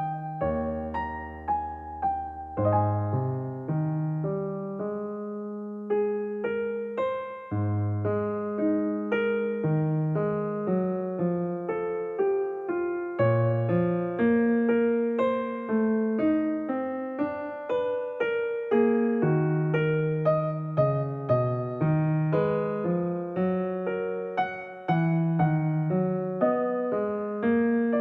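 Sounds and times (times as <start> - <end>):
solo piano piece: 0.0 - 28.0.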